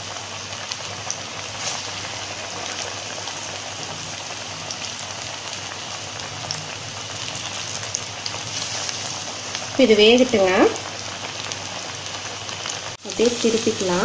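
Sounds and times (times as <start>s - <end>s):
fritters sizzling in hot oil: 0.0s - 14.0s.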